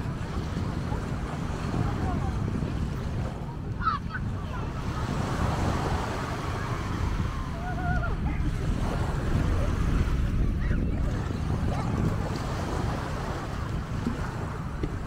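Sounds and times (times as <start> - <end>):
waves washing onto beach: 0.0 - 15.0
wind rumbling on microphone: 0.0 - 15.0.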